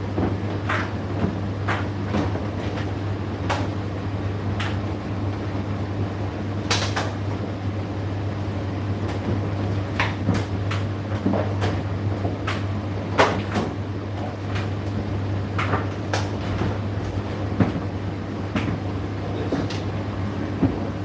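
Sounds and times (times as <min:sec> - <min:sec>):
clothes knocking in dryer drum: 0:00.0 - 0:05.5, 0:09.0 - 0:21.0
tumble dryer motor hum: 0:00.0 - 0:21.0.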